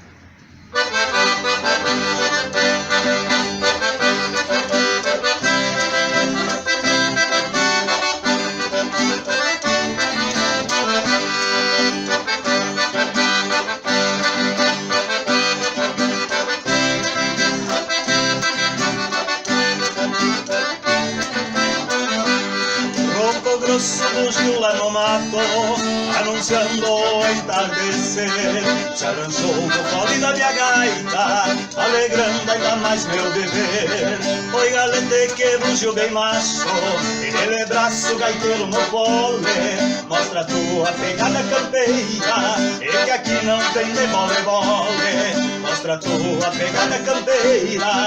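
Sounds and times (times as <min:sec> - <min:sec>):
accordion playing chords: 0:00.0 - 0:48.0.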